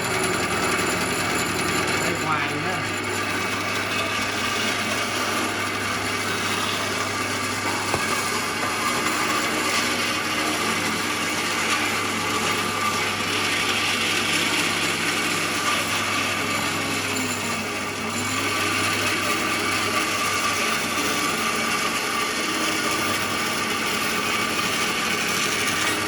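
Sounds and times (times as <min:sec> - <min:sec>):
electric power tool working wood: 0:00.0 - 0:26.0.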